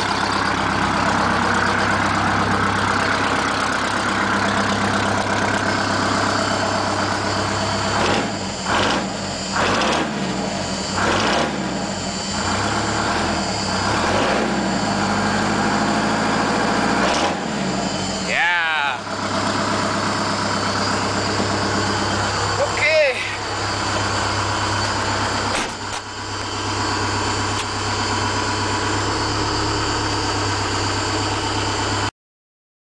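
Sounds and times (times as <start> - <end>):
diesel truck engine idling and revving: 0.0 - 32.1.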